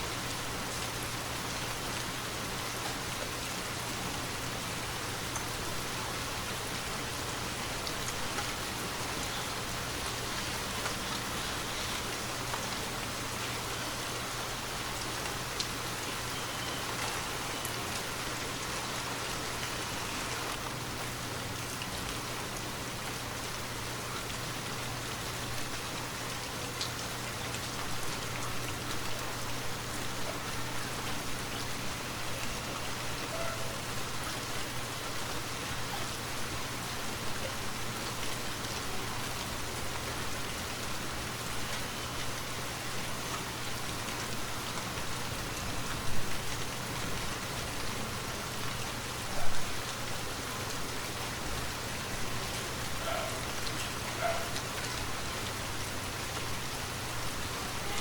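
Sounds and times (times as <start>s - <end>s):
rain falling in forest: 0.0s - 58.0s.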